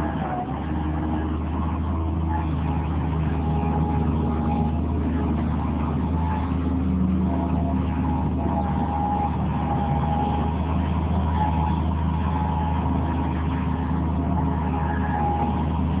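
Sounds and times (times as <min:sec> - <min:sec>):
diesel engine running: 0:00.0 - 0:16.0
faint high whine: 0:00.0 - 0:16.0.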